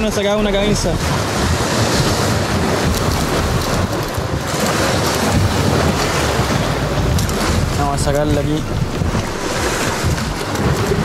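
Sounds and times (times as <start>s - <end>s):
surf washing against rocks: 0.0s - 11.0s
wind buffeting microphone: 0.0s - 11.0s.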